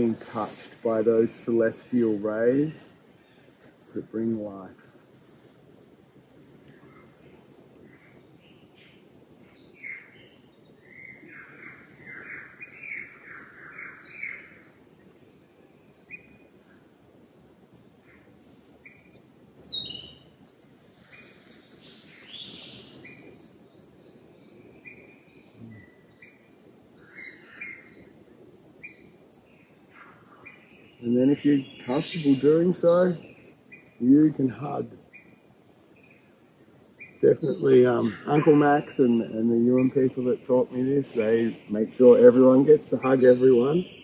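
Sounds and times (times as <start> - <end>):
birds chirping and calling: 0.0 - 5.3, 6.2 - 17.1, 17.8 - 44.0.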